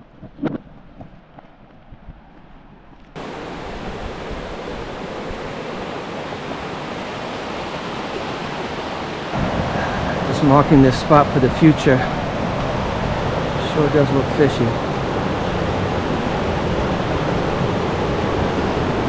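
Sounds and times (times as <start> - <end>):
stream water rushing: 3.2 - 19.0.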